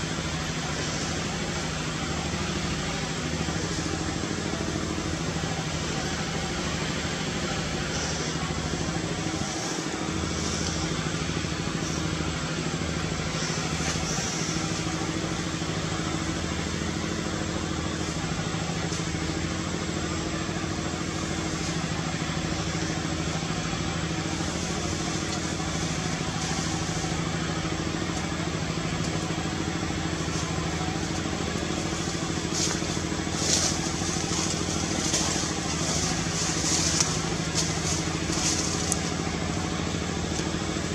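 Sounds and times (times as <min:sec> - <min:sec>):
constant even noise: 0:00.0 - 0:40.9
low mechanical hum: 0:00.0 - 0:40.9.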